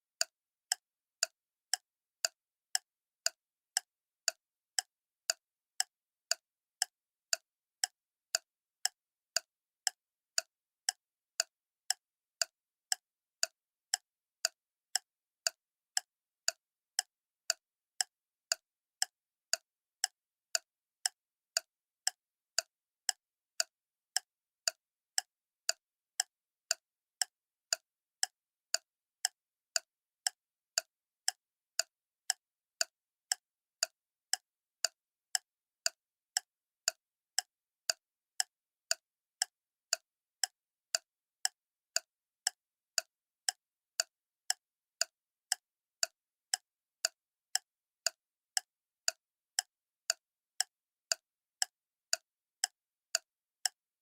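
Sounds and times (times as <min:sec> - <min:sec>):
clock ticking: 0:00.2 - 0:53.8.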